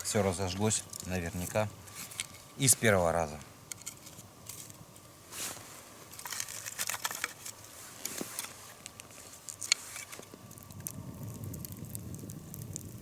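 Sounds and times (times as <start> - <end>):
wood chips rustling: 0.0 - 10.9.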